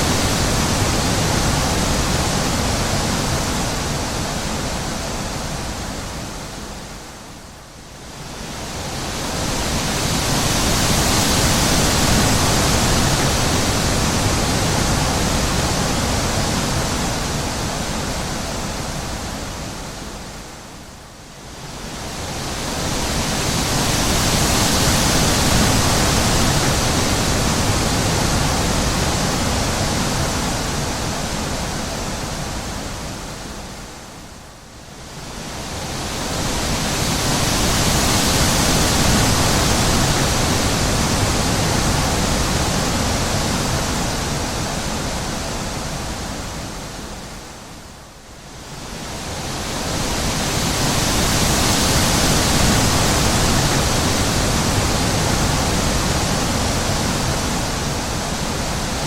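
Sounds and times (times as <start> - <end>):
wind blowing in gusts: 0.0 - 59.0.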